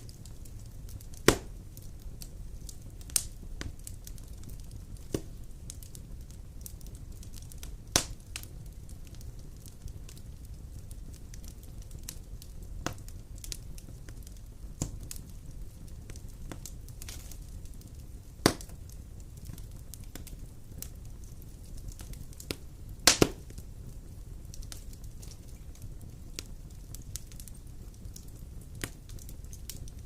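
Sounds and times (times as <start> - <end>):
fire crackling: 0.0 - 30.0
fire flames rumbling: 0.0 - 30.0
wood fire popping: 0.0 - 30.0.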